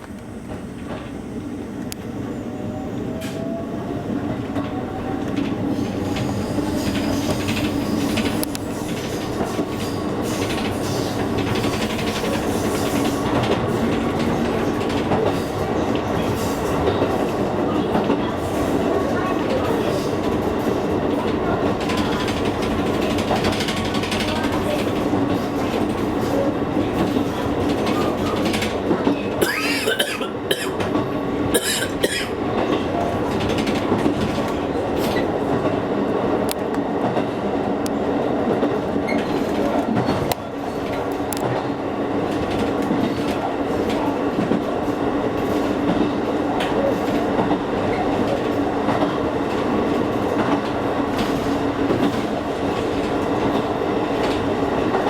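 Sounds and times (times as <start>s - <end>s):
train wheel clatter and rattles: 0.0s - 2.1s, 3.1s - 55.0s
electric train rumble and hum: 0.0s - 55.0s.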